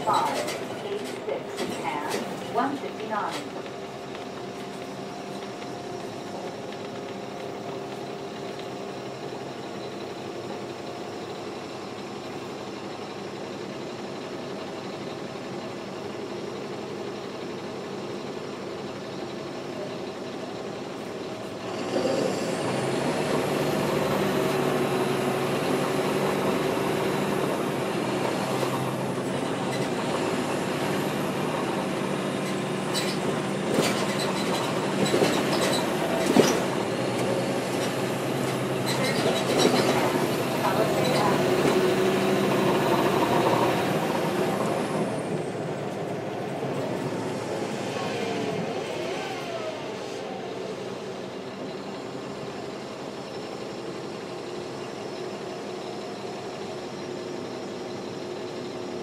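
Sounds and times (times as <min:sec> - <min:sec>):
diesel bus engine running: 0:00.0 - 0:59.0.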